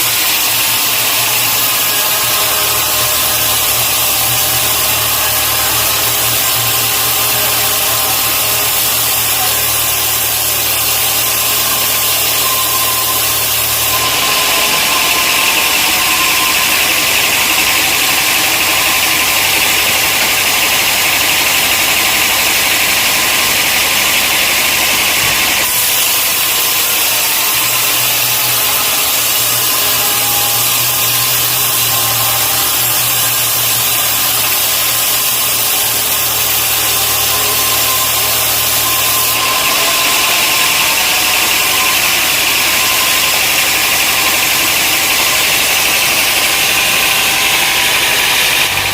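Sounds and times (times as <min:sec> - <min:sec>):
high machinery hiss: 0:00.0 - 0:48.9
sawmill machinery low hum: 0:00.0 - 0:48.9.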